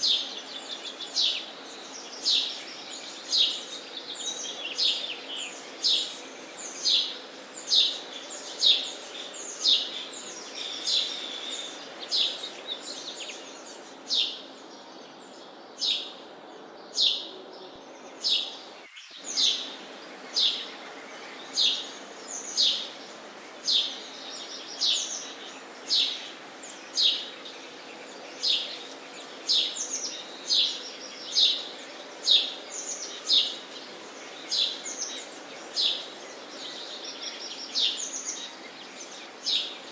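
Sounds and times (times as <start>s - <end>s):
background hiss: 0.0s - 39.9s
sparrow chirping: 0.0s - 39.9s.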